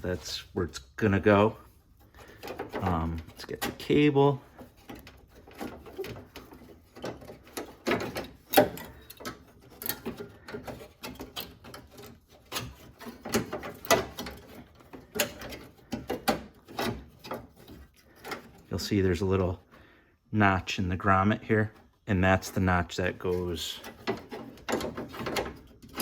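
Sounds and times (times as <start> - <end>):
metal parts clicking and rattling: 1.2 - 19.0, 22.4 - 26.0.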